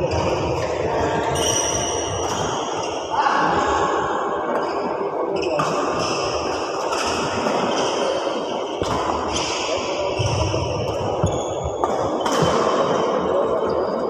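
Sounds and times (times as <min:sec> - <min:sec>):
echoing hall din: 0:00.0 - 0:14.0.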